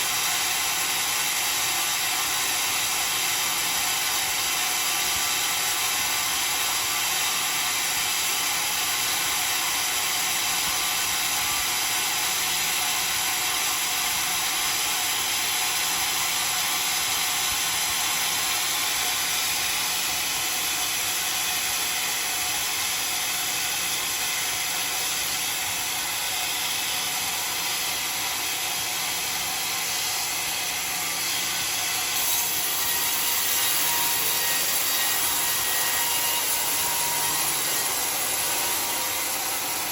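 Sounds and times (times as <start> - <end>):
saw blade cutting log: 0.0 - 39.9.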